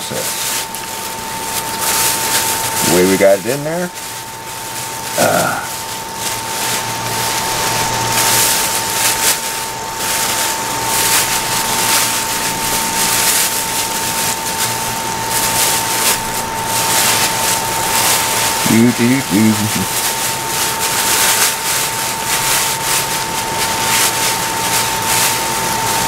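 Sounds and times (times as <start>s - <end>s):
hot oil frying: 0.0s - 26.0s
plastic bag crinkling: 0.0s - 26.0s.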